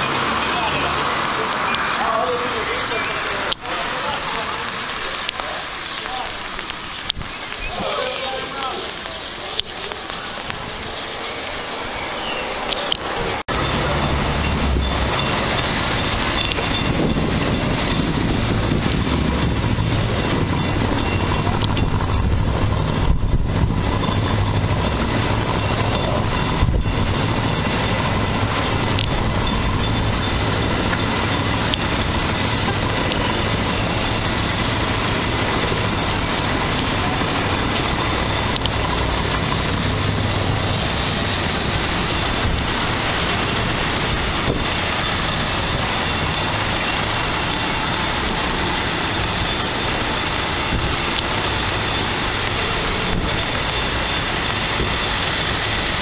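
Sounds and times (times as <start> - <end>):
train rumbling past: 0.0 - 56.0.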